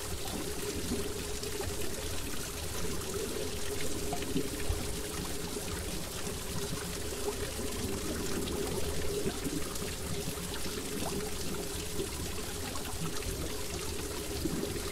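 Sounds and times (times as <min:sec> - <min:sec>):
aquarium water trickling: 0:00.0 - 0:14.9.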